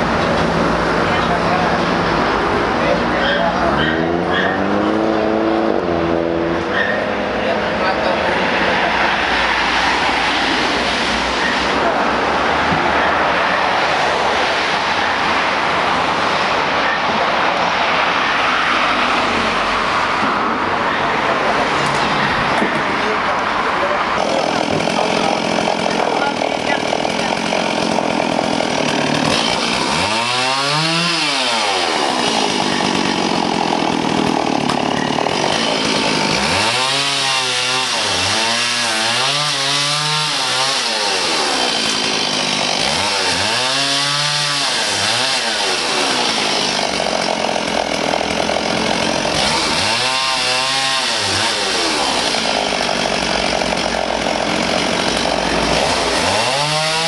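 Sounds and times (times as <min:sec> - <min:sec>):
power saw cutting wood: 0:00.0 - 0:57.0.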